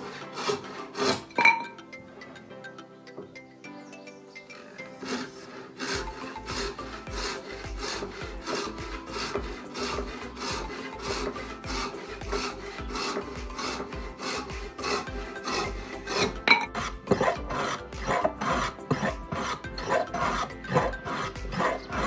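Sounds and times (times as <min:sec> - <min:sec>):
hand saw cutting wood: 0:00.0 - 0:01.8, 0:04.8 - 0:22.0.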